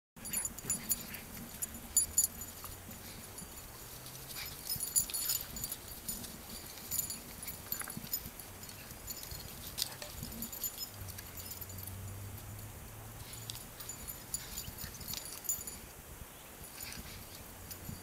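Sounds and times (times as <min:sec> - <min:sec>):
dogs scuffling on dry grass: 0:00.2 - 0:12.5, 0:13.2 - 0:15.9, 0:16.6 - 0:18.0
metallic jingling: 0:00.2 - 0:16.0, 0:16.6 - 0:18.0.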